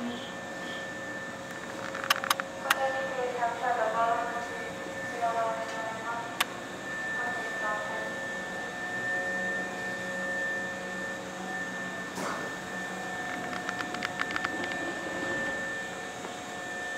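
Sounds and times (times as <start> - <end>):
high whine: 0.0 - 16.9
train equipment fan drone: 0.0 - 16.9.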